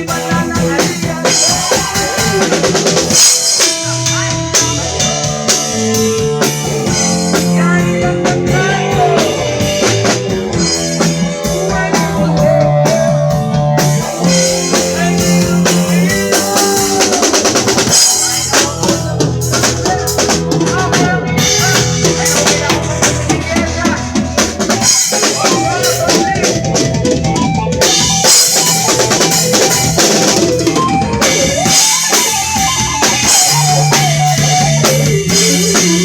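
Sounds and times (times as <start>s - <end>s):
drum kit beat: 0.0s - 36.0s
held bass notes: 0.0s - 36.0s
live band playing: 0.0s - 36.0s.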